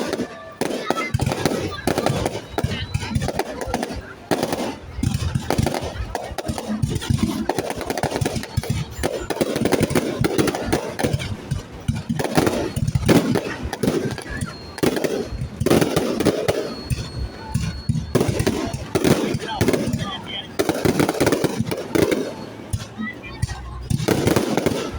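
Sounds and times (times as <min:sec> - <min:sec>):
crowd voices: 0:00.0 - 0:24.9
fireworks bursting and crackling: 0:00.0 - 0:24.9.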